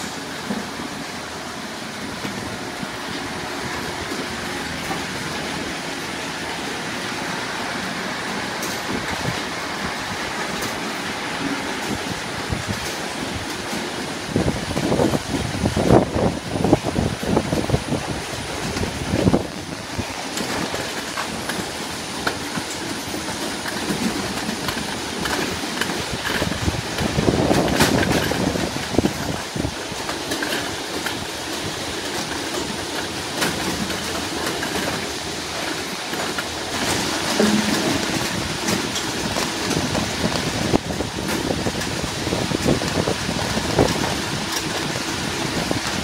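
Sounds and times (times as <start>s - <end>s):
conveyor mechanical clatter: 0.0s - 46.0s.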